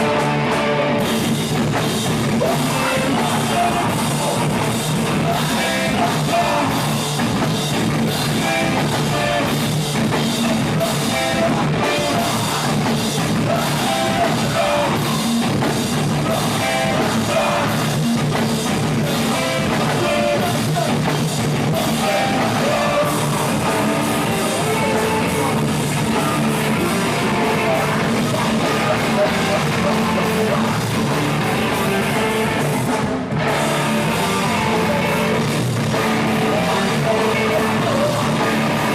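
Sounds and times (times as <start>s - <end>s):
rock band playing loudly: 0.0s - 38.9s.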